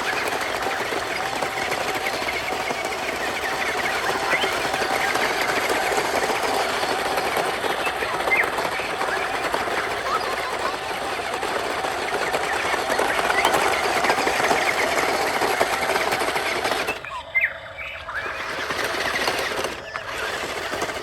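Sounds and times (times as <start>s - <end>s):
small electric gear motors rattling: 0.0s - 21.0s.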